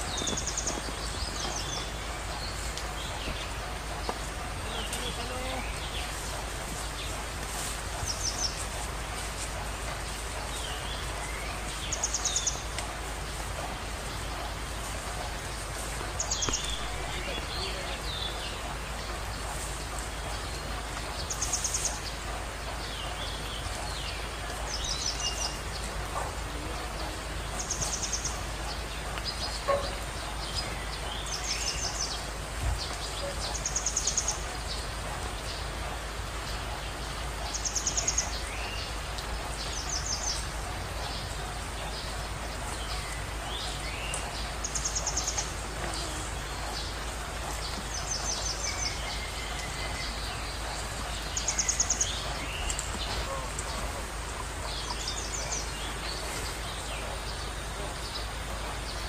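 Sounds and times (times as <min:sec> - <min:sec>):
birds trilling: 0:00.0 - 0:59.0
outdoor hiss: 0:00.0 - 0:59.0.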